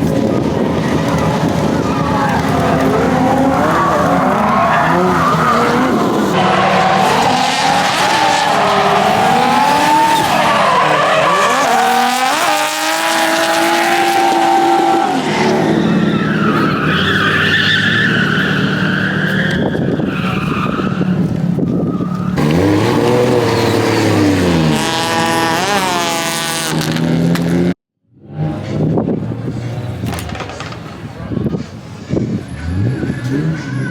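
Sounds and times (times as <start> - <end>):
car engines revving: 0.0 - 33.9.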